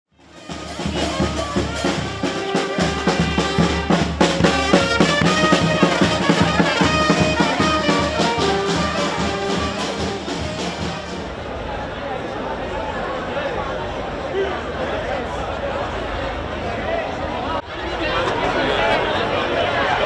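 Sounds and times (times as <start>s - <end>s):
brass band playing a tune: 0.2s - 17.1s.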